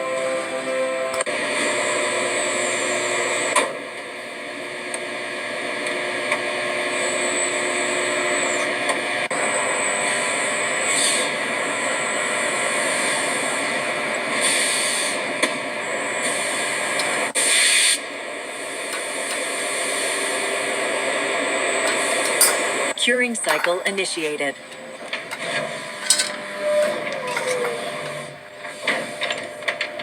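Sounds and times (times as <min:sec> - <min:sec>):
factory machinery noise: 0:00.0 - 0:30.0.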